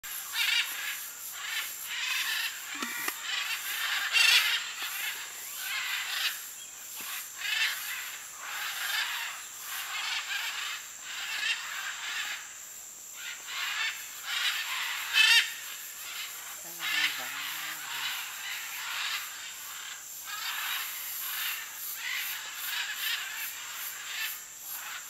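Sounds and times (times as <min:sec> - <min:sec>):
macaws squawking: 0:00.1 - 0:12.5, 0:13.1 - 0:25.0.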